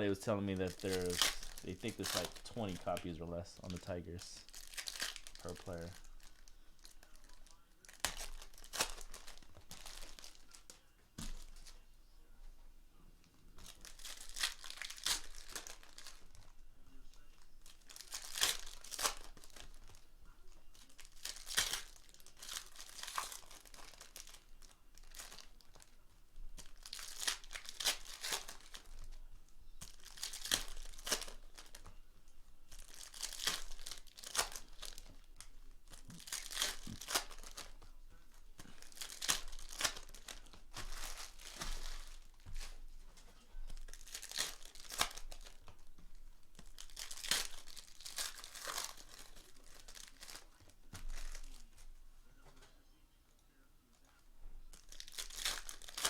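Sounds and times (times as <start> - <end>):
card packs tearing open: 0.0 - 11.7, 13.6 - 20.0, 20.7 - 26.0, 26.6 - 29.2, 29.8 - 31.9, 32.7 - 42.8, 43.7 - 51.8, 54.7 - 56.0
wrappers crinkling: 0.0 - 11.8, 13.5 - 52.0, 54.6 - 56.0.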